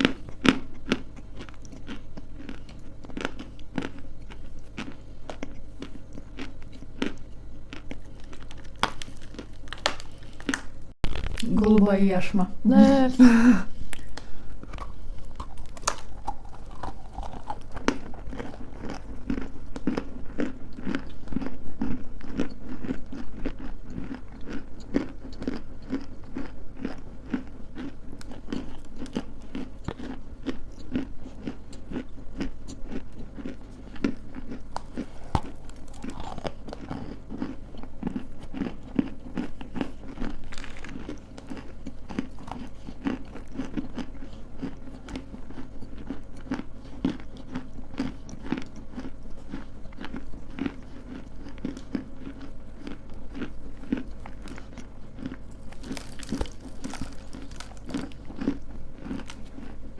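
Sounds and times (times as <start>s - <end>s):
crunchy chewing: 0.0s - 11.5s, 13.9s - 59.9s.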